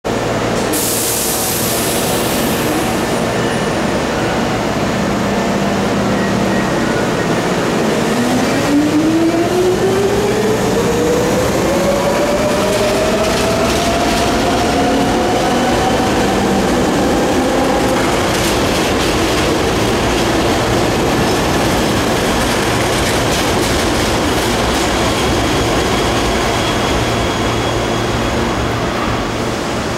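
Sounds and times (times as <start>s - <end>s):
train wheels on rails: 0.1s - 29.9s.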